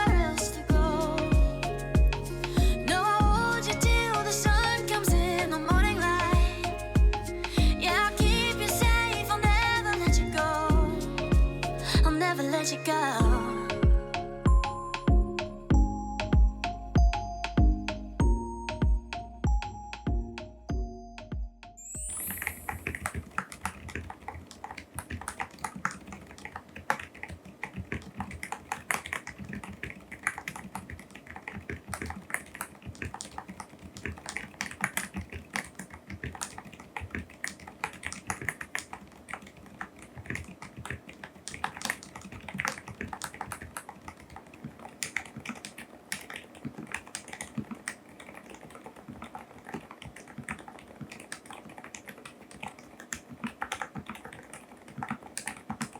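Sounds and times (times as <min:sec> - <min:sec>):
keyboard typing: 0:00.0 - 0:20.3, 0:21.8 - 0:55.9.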